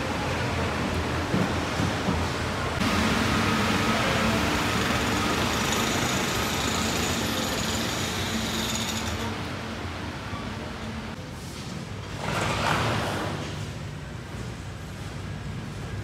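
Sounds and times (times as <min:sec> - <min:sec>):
machinery and ventilation hiss: 0:00.0 - 0:16.0.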